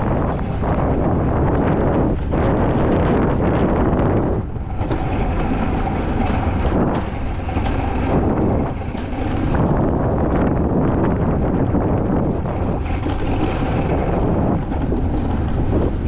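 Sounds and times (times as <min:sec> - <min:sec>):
coaster sled rolling on rail: 0:00.0 - 0:16.0
wind buffeting microphone: 0:00.0 - 0:16.0.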